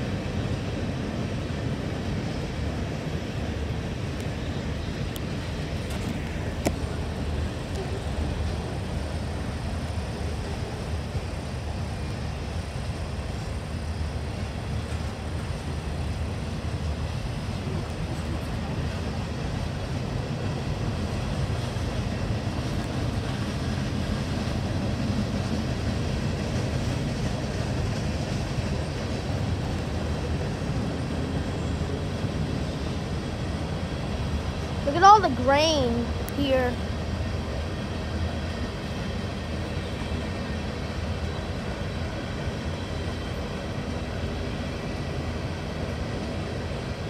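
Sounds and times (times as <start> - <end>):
freight train rolling on rails: 0.0 - 47.0.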